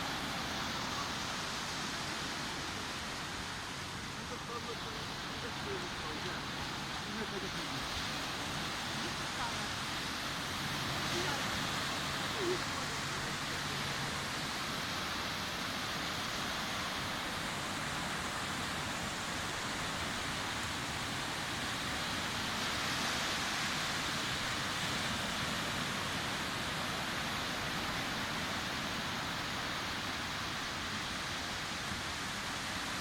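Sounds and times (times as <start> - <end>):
sea waves washing on beach: 0.0 - 33.0.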